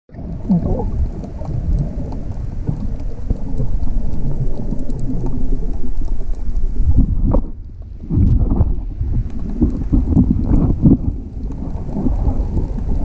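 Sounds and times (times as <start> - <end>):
underwater rumble and sloshing: 0.1 - 13.0.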